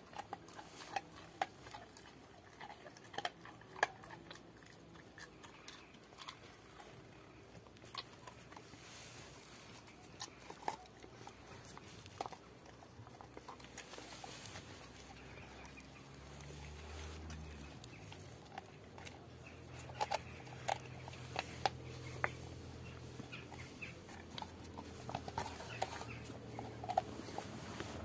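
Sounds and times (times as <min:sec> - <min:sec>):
dog chewing a bone: 0:00.0 - 0:28.0
faint low hum: 0:00.0 - 0:28.0.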